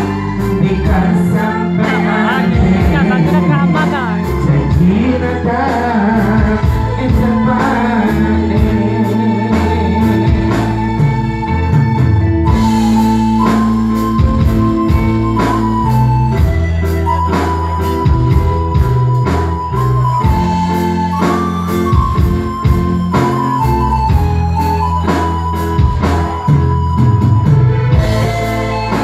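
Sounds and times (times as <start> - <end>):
live band playing: 0.0 - 29.0.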